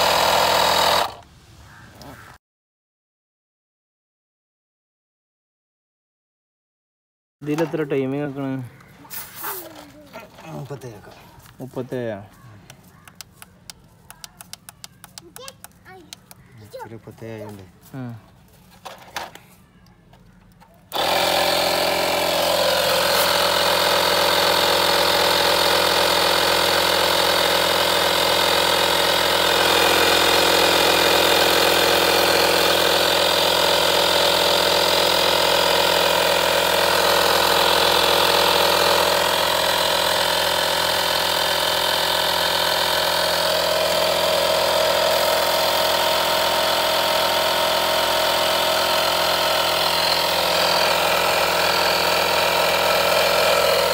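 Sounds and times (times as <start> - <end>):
electric air compressor running: 0.0 - 1.3, 7.5 - 19.4, 20.5 - 53.9.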